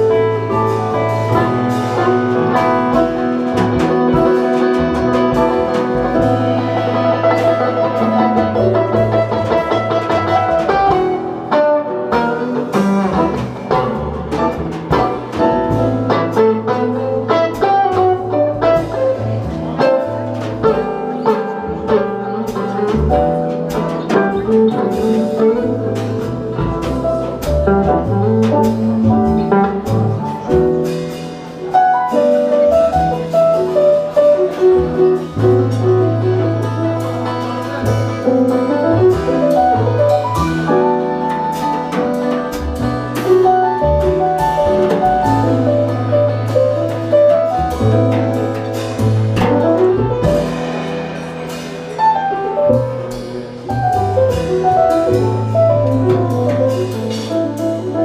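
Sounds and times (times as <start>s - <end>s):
double bass low notes: 0.0s - 58.0s
drum kit and cymbals: 0.0s - 58.0s
electric keyboard chords: 0.0s - 58.0s.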